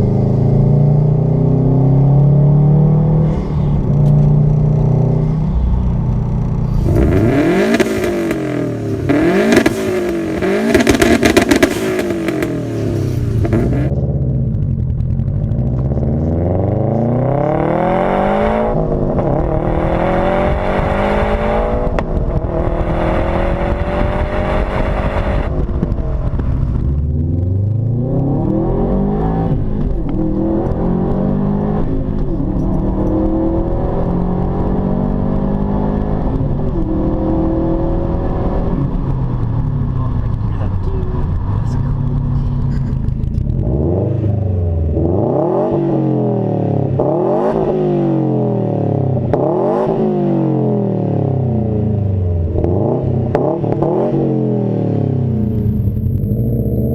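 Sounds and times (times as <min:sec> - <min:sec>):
car accelerating through gears: 0:00.0 - 0:13.9, 0:15.7 - 0:25.8, 0:27.1 - 0:56.9
car engine revving: 0:00.0 - 0:56.9
exhaust crackles: 0:03.2 - 0:56.9.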